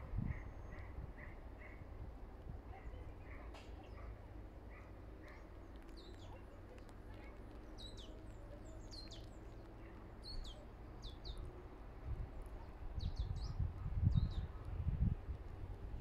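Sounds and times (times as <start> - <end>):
songbirds chirping: 0.1 - 16.0.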